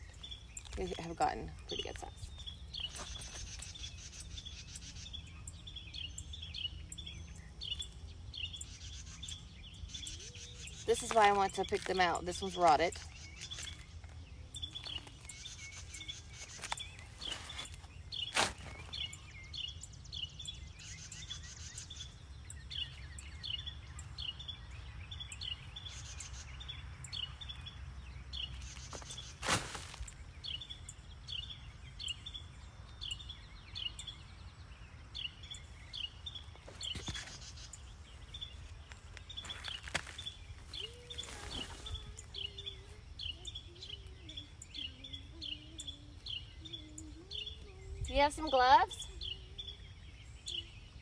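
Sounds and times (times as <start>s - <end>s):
bird chirping: 0.0s - 51.0s.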